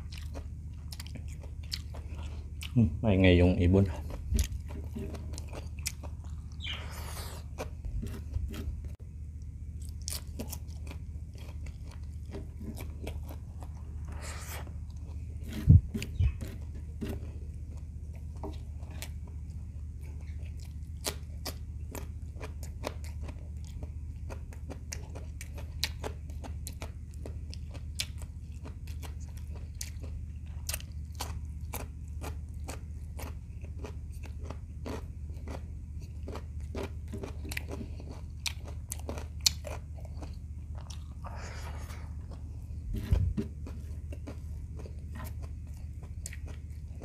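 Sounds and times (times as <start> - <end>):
chewing and crunching food: 0.0 - 47.0
steady low hum: 0.0 - 47.0.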